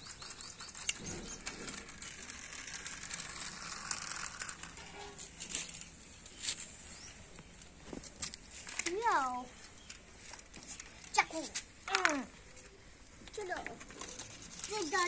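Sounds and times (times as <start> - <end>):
rustling: 0.6 - 15.0.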